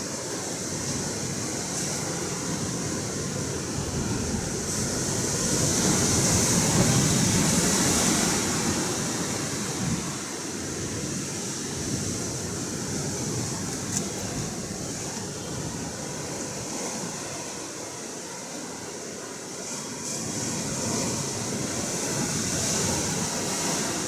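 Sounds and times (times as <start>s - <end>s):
waves breaking: 0.0s - 24.0s.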